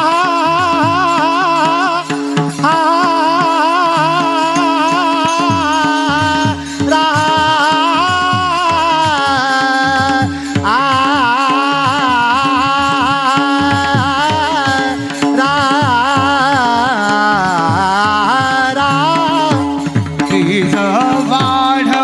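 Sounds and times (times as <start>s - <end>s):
hand-drum strokes: 0.0s - 22.0s
person singing devotional melody: 0.0s - 22.0s.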